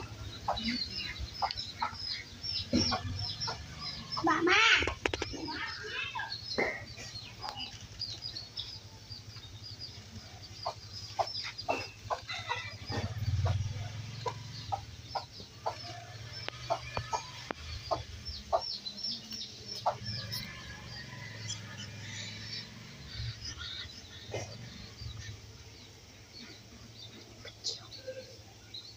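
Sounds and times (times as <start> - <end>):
birds chirping: 0.0 - 28.9
birds clucking: 0.0 - 28.9.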